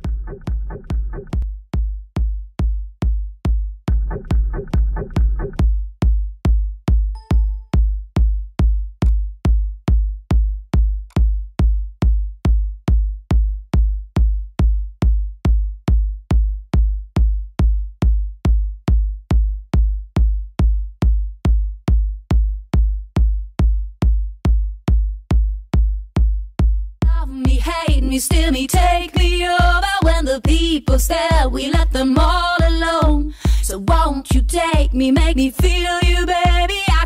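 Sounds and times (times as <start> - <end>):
drum machine kick drum: 0.0 - 37.0.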